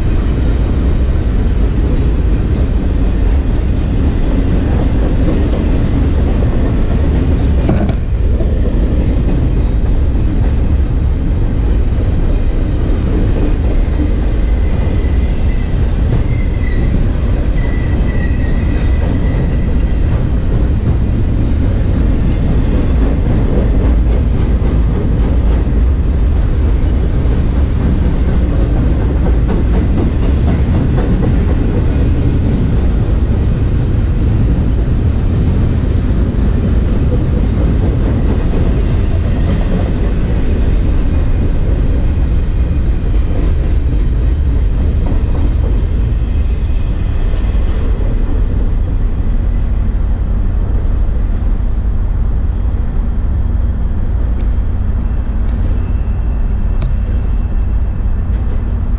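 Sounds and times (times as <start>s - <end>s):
train wheels on rails: 0.0s - 58.9s
wind buffeting microphone: 0.0s - 58.9s.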